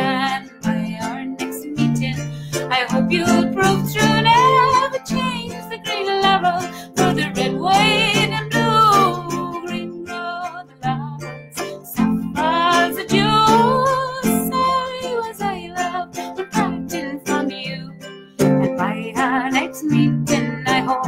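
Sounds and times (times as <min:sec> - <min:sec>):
strummed ukulele: 0:00.0 - 0:21.0
woman singing folk song: 0:00.0 - 0:21.0.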